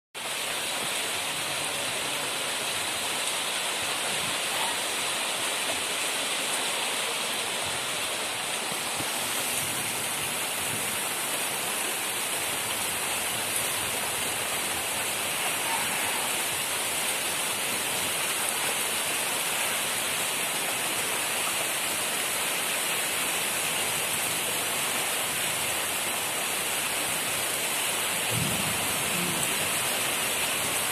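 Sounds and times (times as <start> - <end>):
steady rain falling: 0.2 - 30.9.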